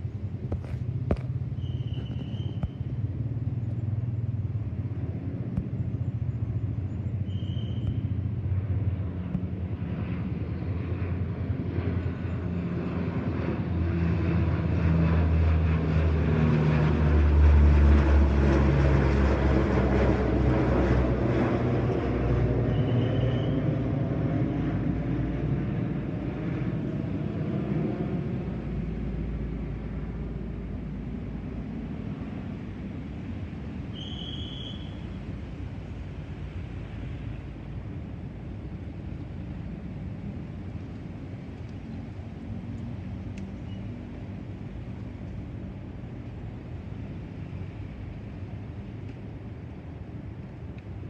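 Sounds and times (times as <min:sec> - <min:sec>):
propeller aircraft drone: 0:00.0 - 0:51.0.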